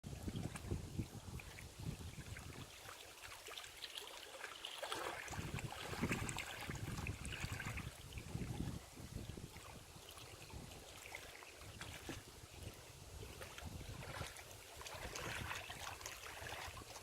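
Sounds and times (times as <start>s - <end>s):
wind buffeting microphone: 0.0s - 2.8s, 5.2s - 10.9s, 11.6s - 16.9s.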